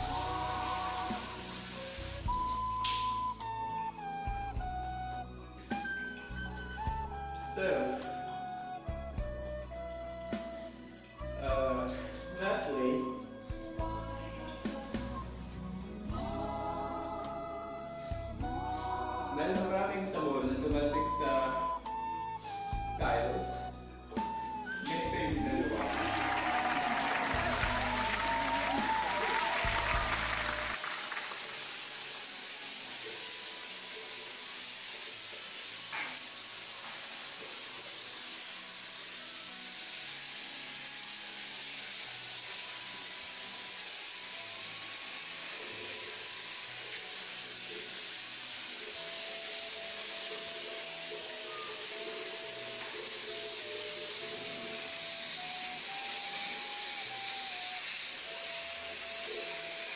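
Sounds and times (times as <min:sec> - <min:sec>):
shower head spraying water: 0:00.0 - 0:15.4, 0:20.9 - 0:22.9, 0:24.1 - 0:59.9.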